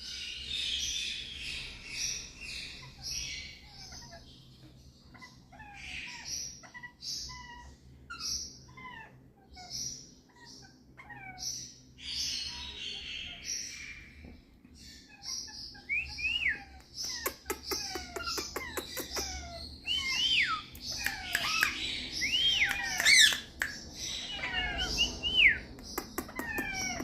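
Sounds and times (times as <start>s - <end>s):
parakeet chicks chirping: 0.0s - 27.0s
parakeet chicks squawking: 0.1s - 27.0s.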